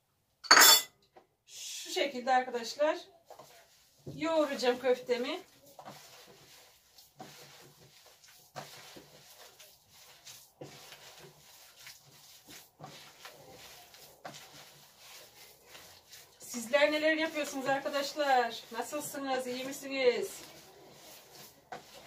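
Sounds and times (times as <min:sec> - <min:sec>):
hands kneading meat mixture: 0:02.3 - 0:22.0.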